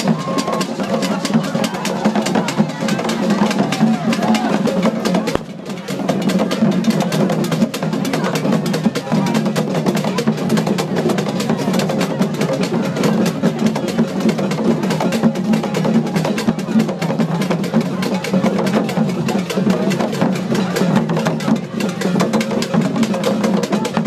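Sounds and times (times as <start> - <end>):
drum ensemble fast rhythm: 0.0 - 24.0
voices: 0.0 - 24.0.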